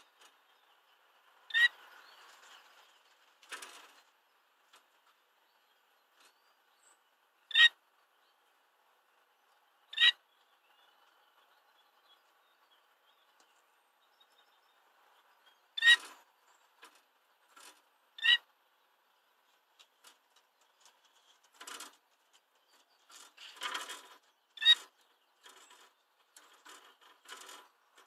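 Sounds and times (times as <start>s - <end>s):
caged bird calling: 0.0s - 4.5s, 5.4s - 8.4s, 9.1s - 28.0s
soft scratchy bird sounds: 0.0s - 28.0s.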